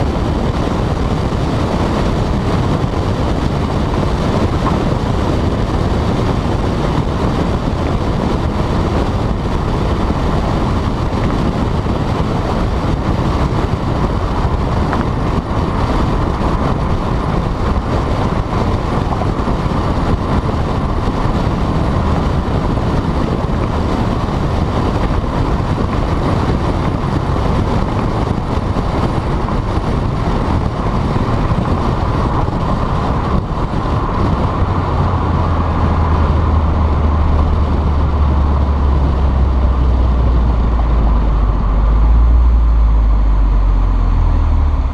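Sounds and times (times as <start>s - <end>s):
car engine and road noise: 0.0s - 44.9s
deep drone: 0.0s - 44.9s.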